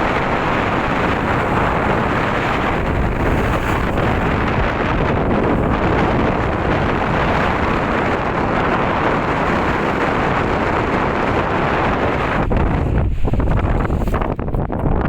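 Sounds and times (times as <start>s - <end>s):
wind blowing on microphone: 0.0s - 15.0s.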